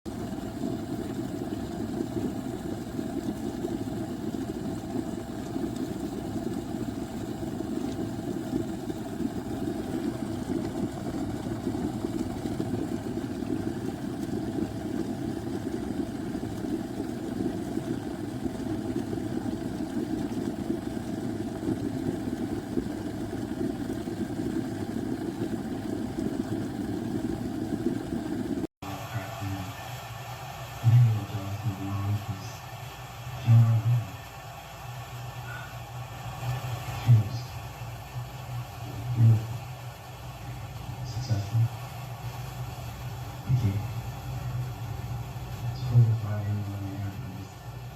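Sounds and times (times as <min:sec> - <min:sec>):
kettle heating water rumble: 0:00.0 - 0:47.9.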